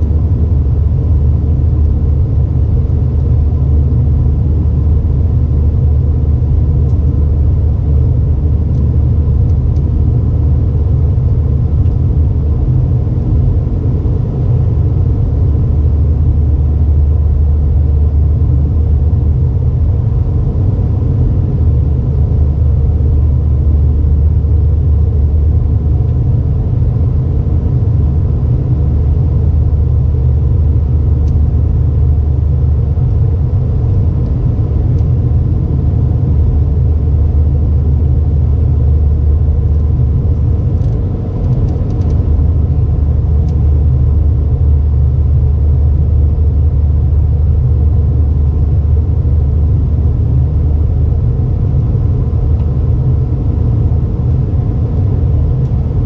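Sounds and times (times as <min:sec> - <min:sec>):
airplane cabin low rumble: 0:00.0 - 0:56.0
faint steady hum: 0:00.0 - 0:56.0.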